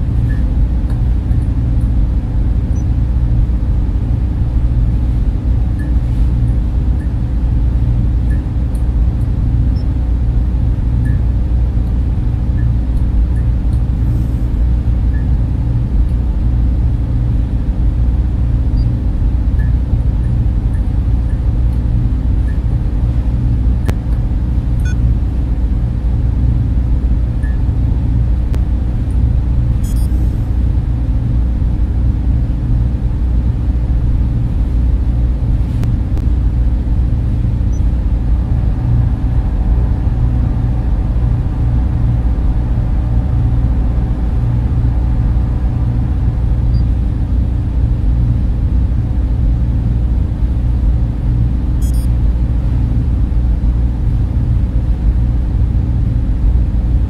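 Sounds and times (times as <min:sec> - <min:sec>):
cooling fans whooshing drone: 0:00.0 - 0:57.0.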